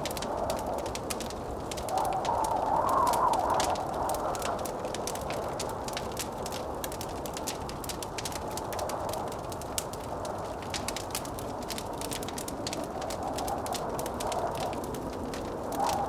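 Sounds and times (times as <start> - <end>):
blizzard wind: 0.0 - 16.0
wood fire crackling and popping: 0.0 - 16.0.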